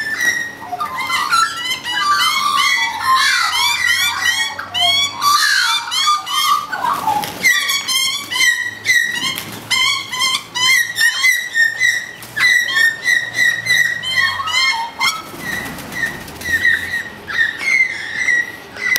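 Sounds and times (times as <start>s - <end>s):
magpies warbling and chattering: 0.0s - 18.9s.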